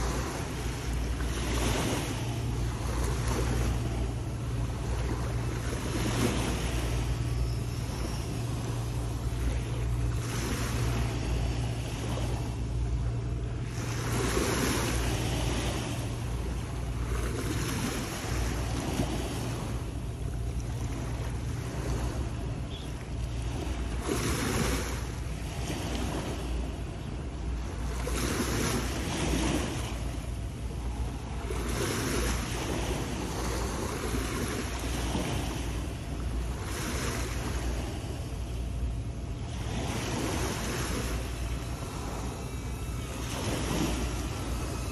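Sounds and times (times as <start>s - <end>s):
sea waves washing against rocks: 0.0s - 7.4s, 8.4s - 44.9s
steady low rumble: 0.0s - 44.9s.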